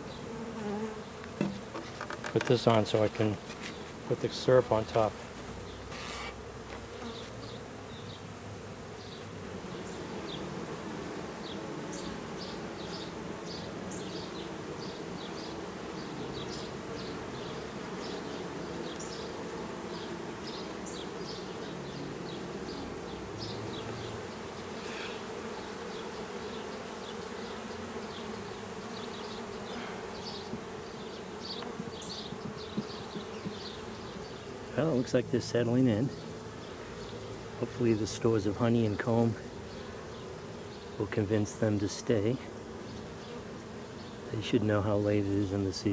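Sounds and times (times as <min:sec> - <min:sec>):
bees buzzing: 0:00.0 - 0:45.9.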